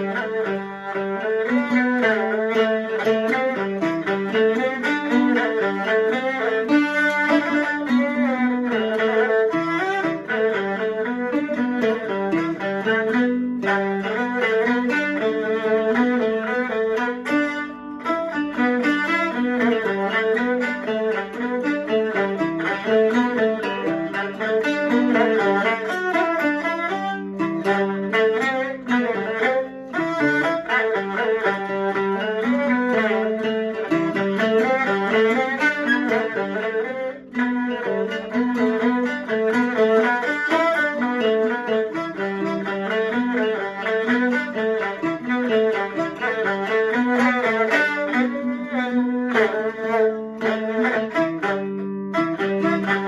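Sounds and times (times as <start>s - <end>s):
bowed fiddles: 0.0s - 53.0s
plucked strings: 0.0s - 53.0s.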